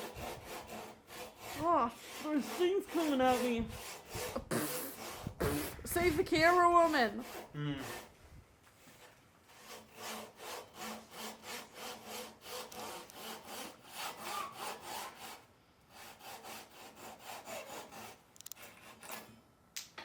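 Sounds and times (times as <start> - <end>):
hand saw cutting wood: 0.0 - 8.1, 8.8 - 19.4.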